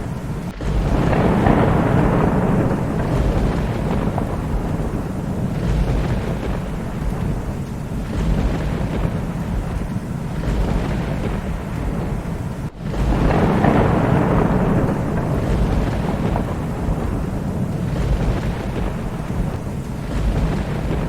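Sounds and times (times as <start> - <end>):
rolling thunder rumble: 0.0 - 21.0
steady rain: 0.0 - 21.0.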